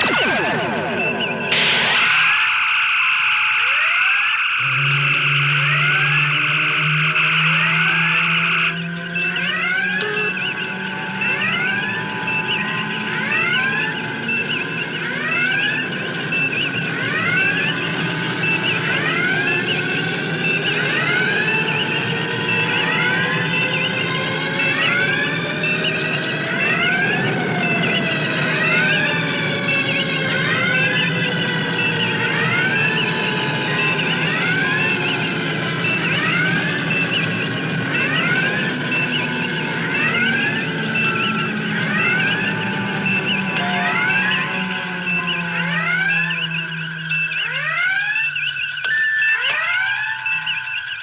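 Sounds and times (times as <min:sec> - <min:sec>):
rising electronic sweeps: 0:00.0 - 0:51.0
warbling electronic beeps: 0:00.0 - 0:51.0.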